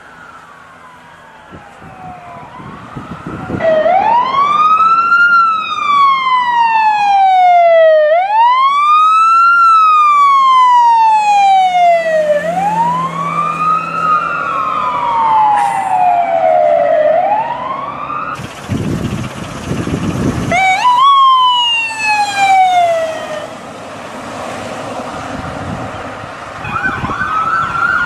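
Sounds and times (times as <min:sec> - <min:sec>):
ambulance siren wailing: 0:00.0 - 0:23.8, 0:26.6 - 0:28.0.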